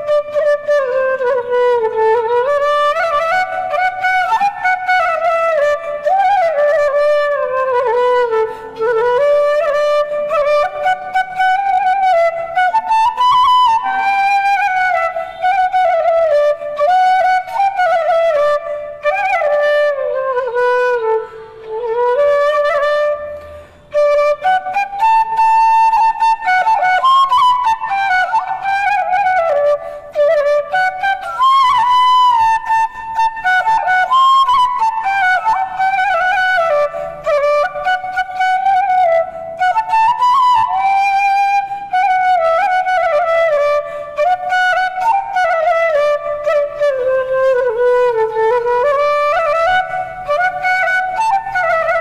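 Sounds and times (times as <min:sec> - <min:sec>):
bamboo flute melody: 0:00.0 - 0:52.0.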